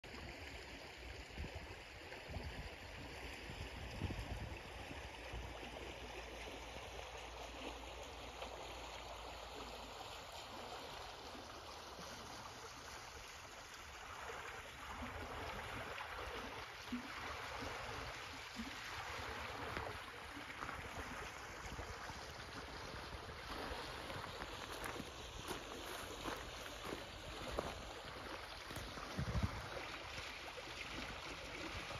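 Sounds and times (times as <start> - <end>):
stream running over pebbles: 0.0 - 31.9.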